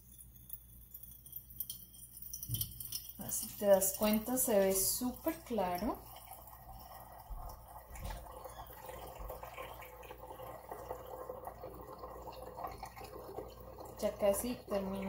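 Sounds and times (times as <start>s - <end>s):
coffee trickling into a glass: 0.0s - 15.0s.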